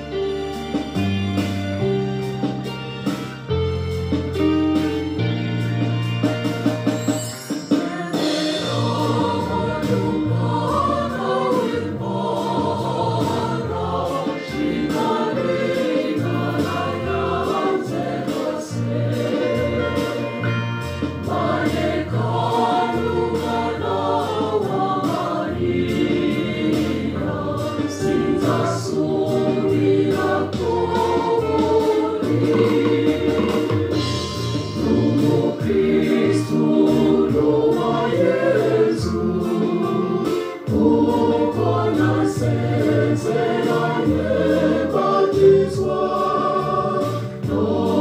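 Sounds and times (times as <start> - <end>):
instrumental backing with bass line: 0.0 - 48.0
choir singing gospel song: 7.8 - 48.0.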